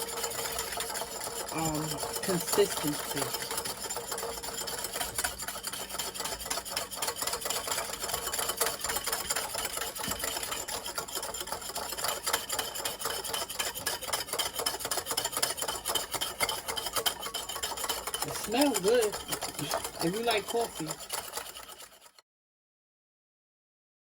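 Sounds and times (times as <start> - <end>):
wire whisk clattering in bowl: 0.0 - 22.2.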